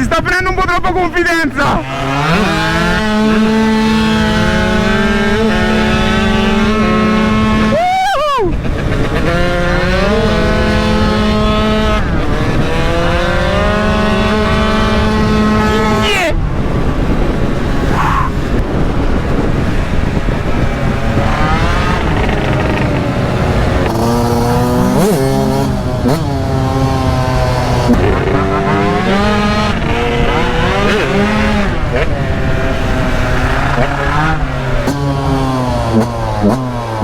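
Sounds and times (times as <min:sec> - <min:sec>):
motocross engine revving: 0:01.5 - 0:07.9, 0:08.5 - 0:37.0.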